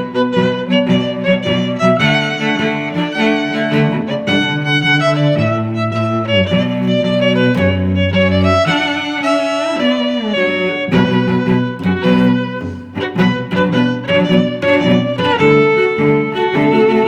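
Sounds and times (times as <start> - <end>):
held low string notes: 0.0 - 17.0
violin melody: 0.0 - 17.0.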